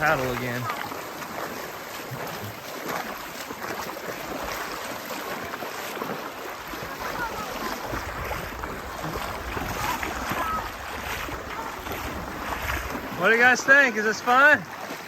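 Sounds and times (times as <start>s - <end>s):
creek water over rapids: 0.0s - 15.0s.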